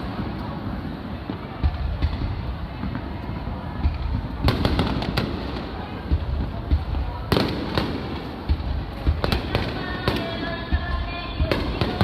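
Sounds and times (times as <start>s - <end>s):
fireworks bursting with sharp bangs: 0.0s - 12.0s.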